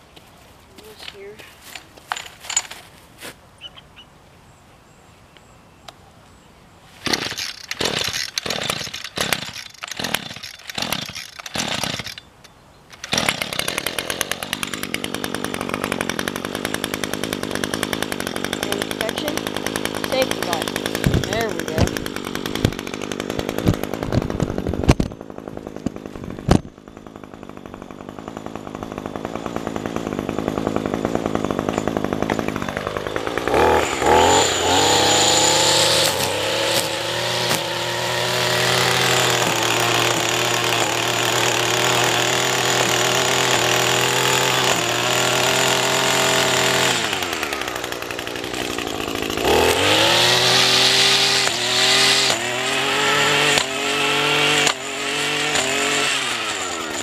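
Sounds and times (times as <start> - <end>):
string trimmer engine revving: 7.0 - 12.3, 12.9 - 57.0.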